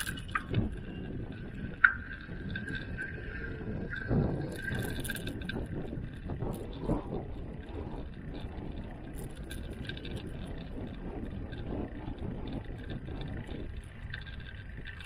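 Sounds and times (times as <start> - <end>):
light rattles: 0.0 - 15.0
tyres rumbling on rough pavement: 0.0 - 15.0
wind buffeting microphone: 0.0 - 15.0.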